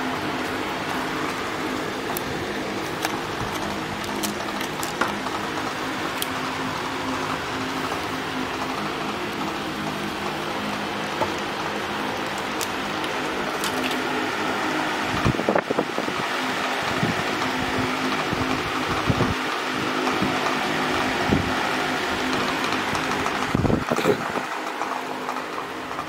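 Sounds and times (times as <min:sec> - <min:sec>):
mechanical hum and hiss: 0:00.0 - 0:26.0.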